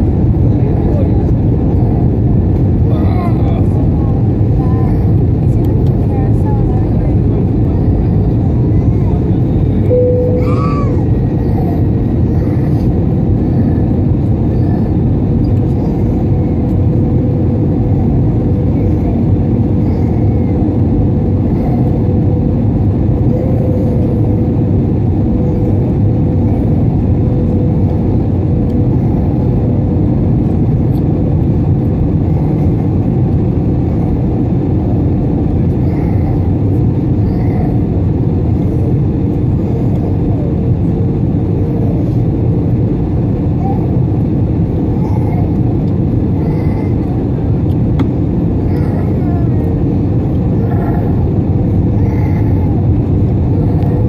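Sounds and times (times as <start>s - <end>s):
constant droning hum: 0.0s - 54.0s
jet engine rumble: 0.0s - 54.0s.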